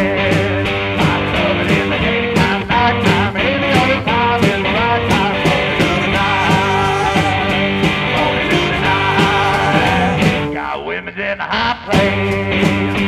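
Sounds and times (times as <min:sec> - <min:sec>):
rockabilly song with electric guitar: 0:00.0 - 0:13.0.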